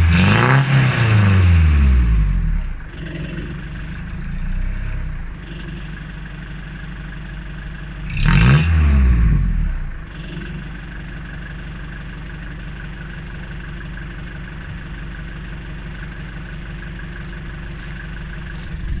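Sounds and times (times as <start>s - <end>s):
diesel van engine idling and revving: 0.0s - 19.0s.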